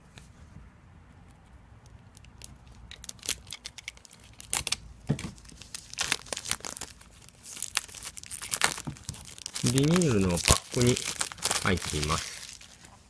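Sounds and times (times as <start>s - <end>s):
plastic shrink-wrap crinkling and tearing: 2.1s - 13.0s.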